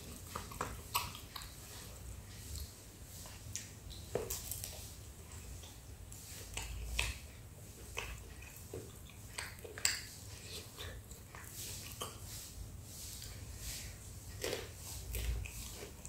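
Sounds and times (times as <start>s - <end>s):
chewing crisp crust: 0.0s - 16.0s.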